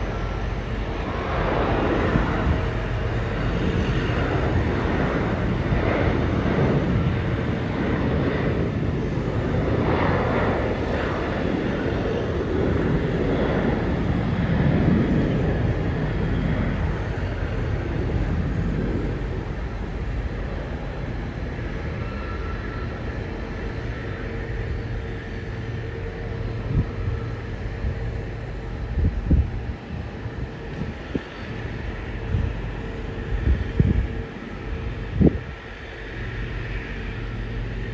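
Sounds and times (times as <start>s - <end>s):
jet engines at takeoff thrust: 0.0s - 37.9s.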